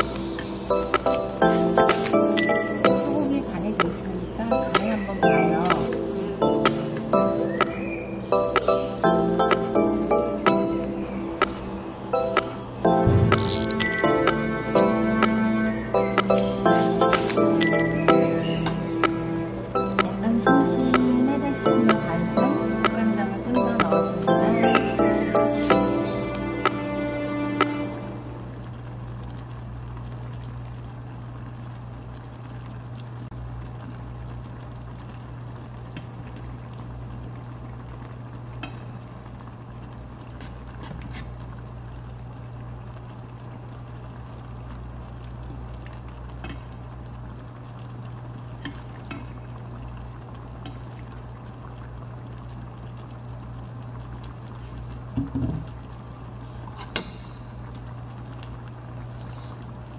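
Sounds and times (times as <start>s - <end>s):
broth simmering in a pan: 0.0s - 59.9s.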